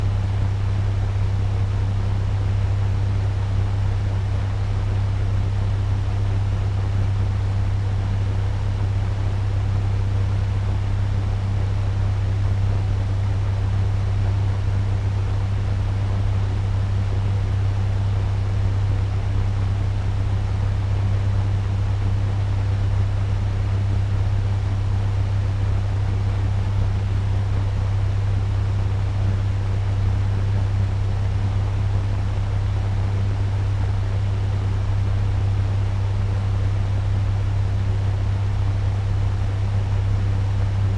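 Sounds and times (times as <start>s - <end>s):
fan air rush with low hum: 0.0s - 40.9s.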